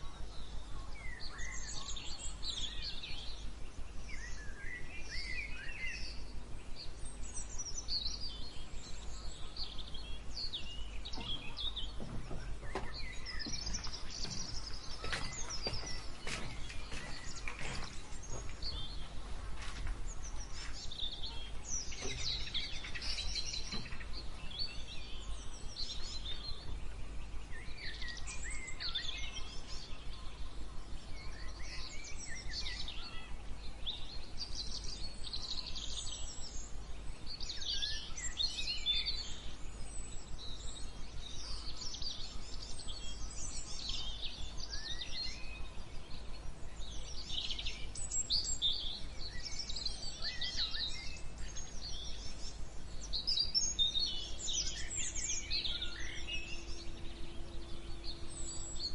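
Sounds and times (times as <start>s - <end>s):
steady low rumble: 0.0s - 37.4s, 39.0s - 58.9s
birds singing: 0.0s - 58.9s.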